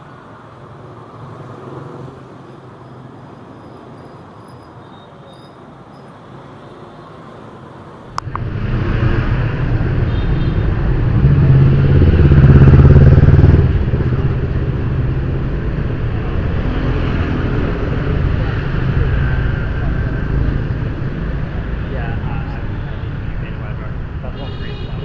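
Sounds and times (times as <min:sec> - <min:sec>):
motorbike engines: 0:00.0 - 0:25.0
street traffic rumble: 0:00.0 - 0:25.0.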